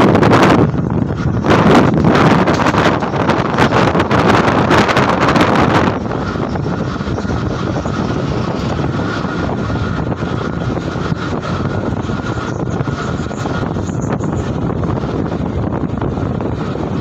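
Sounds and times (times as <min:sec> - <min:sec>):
rushing air: 0:00.0 - 0:17.0
train wheels rumbling on track: 0:00.0 - 0:17.0.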